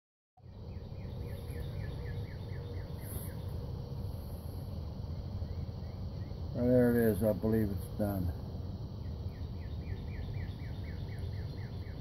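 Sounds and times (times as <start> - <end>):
faint insect drone: 0.4 - 12.0
steady low rumble: 0.5 - 12.0.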